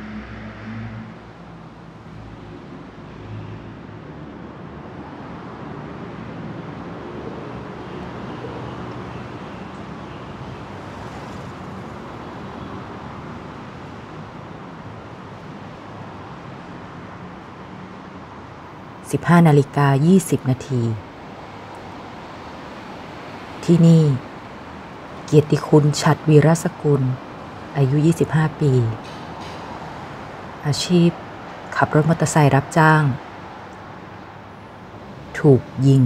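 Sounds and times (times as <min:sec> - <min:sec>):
road traffic hum: 0:00.0 - 0:36.0.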